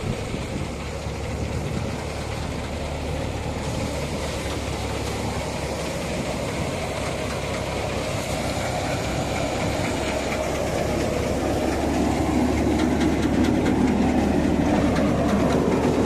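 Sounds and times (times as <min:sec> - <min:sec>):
threshing drum rattling: 0:00.0 - 0:16.0
tractor diesel engine running: 0:00.0 - 0:16.0.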